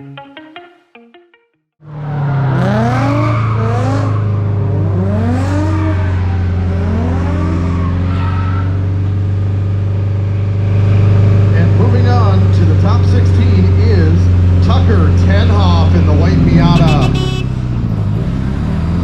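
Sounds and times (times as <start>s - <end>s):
car engine revving: 1.8s - 19.0s.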